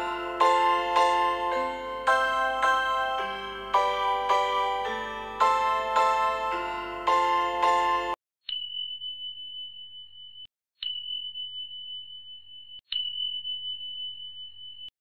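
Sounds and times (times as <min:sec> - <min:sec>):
high bell-like ringing tone: 0:00.0 - 0:14.9.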